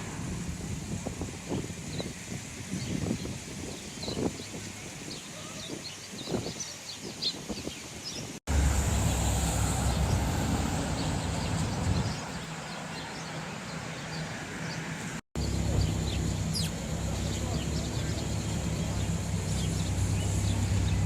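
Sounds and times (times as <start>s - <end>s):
low rumble of city traffic: 0.0s - 5.0s, 8.4s - 21.0s
sparrows chirping: 1.5s - 21.0s.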